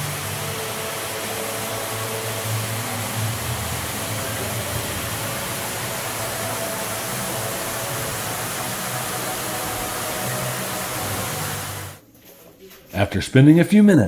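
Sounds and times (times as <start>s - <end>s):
underground waterfall rushing: 0.0s - 12.0s.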